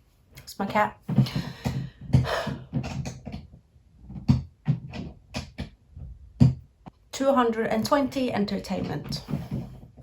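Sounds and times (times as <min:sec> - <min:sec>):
dull knocks and bumps: 0:01.0 - 0:07.0, 0:07.8 - 0:10.0.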